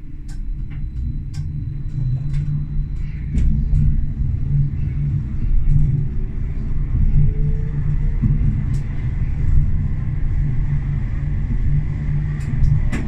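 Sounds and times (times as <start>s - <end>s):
tram wheels rumbling: 0.0s - 13.0s.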